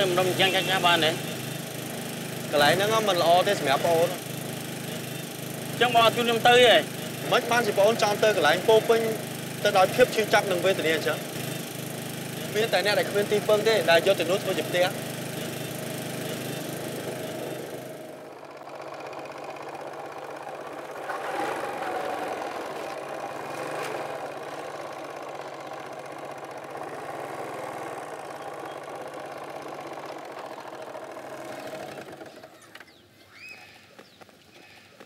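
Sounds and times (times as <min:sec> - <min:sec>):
small motorbike engine running: 0:00.0 - 0:35.0.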